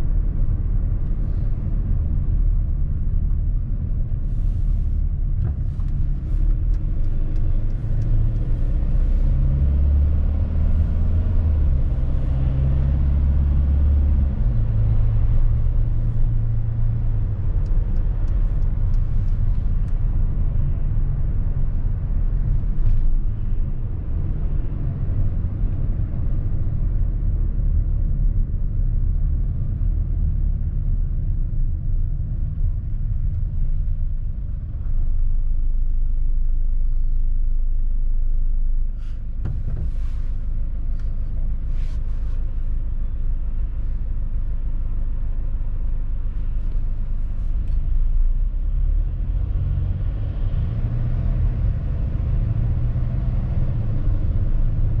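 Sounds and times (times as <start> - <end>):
van engine and road rumble: 0.0 - 55.0.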